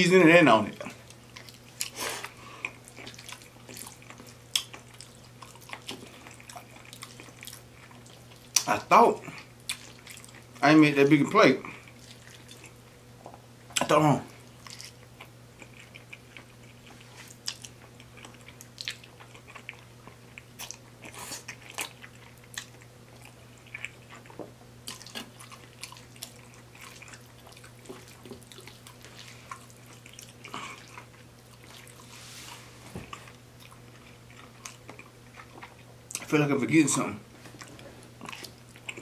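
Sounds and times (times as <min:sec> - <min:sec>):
faint low hum: 0:00.0 - 0:39.0
chewing with wet mouth clicks: 0:00.8 - 0:10.6, 0:11.7 - 0:13.9, 0:14.5 - 0:32.0, 0:33.0 - 0:36.3, 0:37.6 - 0:39.0.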